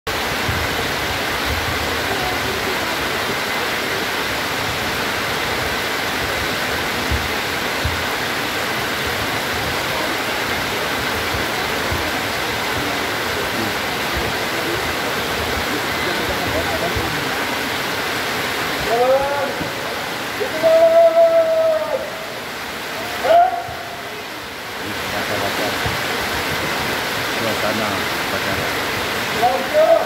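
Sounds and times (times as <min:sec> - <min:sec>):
heavy rain on a field: 0:00.1 - 0:30.0.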